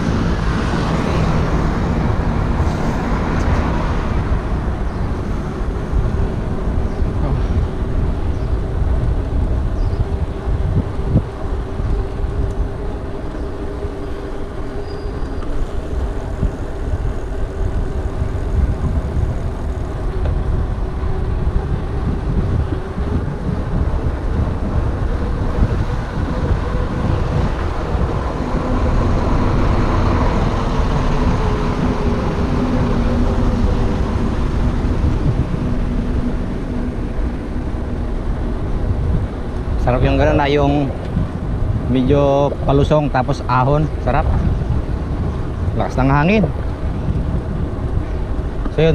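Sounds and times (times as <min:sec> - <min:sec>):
bicycle tyres rumbling on asphalt: 0:00.0 - 0:48.9
road traffic: 0:00.0 - 0:48.9
wind on microphone: 0:00.0 - 0:48.9.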